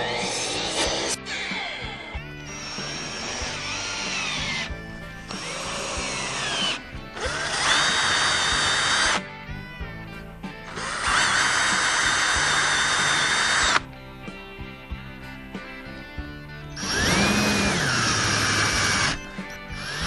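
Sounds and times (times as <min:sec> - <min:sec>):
power drill running: 0:00.0 - 0:09.7, 0:10.7 - 0:13.9, 0:16.6 - 0:20.0
background music: 0:00.0 - 0:20.0.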